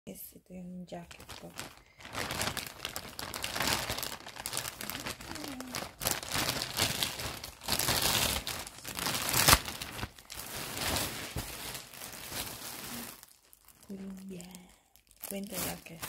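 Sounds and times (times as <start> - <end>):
plastic bag crinkling: 1.0 - 16.0.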